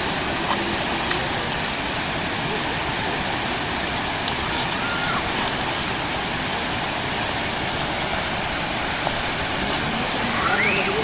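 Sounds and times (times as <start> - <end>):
stream water rushing over rocks: 0.0 - 11.0.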